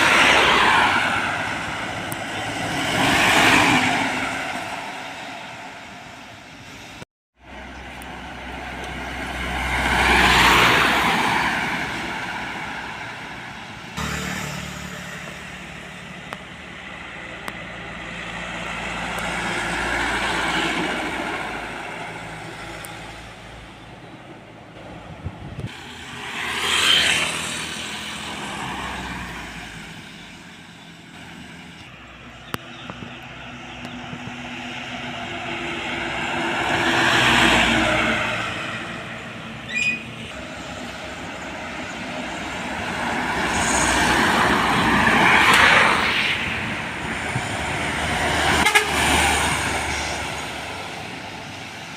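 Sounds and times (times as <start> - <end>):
vehicles passing by: 0.0 - 51.9.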